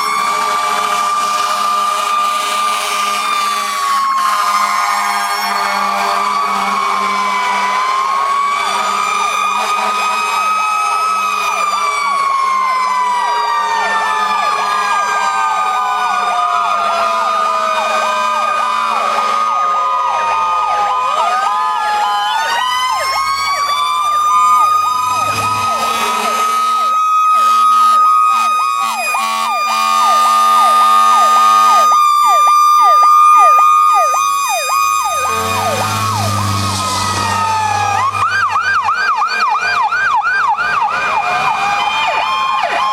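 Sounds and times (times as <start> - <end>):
fast siren yelp: 0.0 - 42.9
sirens wailing: 0.0 - 42.9.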